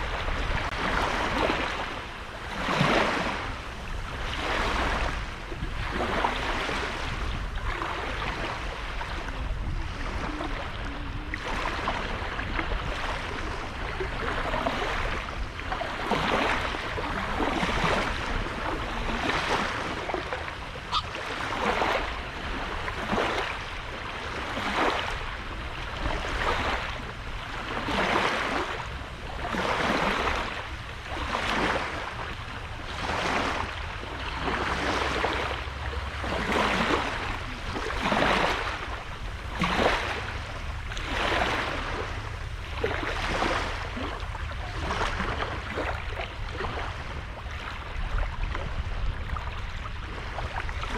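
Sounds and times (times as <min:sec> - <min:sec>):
small waves breaking on beach: 0:00.0 - 0:50.9.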